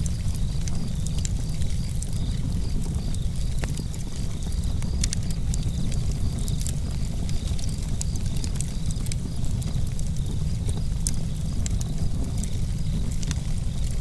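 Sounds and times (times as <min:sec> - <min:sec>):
campfire crackling and popping: 0:00.0 - 0:14.0
crickets chirping: 0:00.0 - 0:14.0
low rumble of breeze and flames: 0:00.0 - 0:14.0.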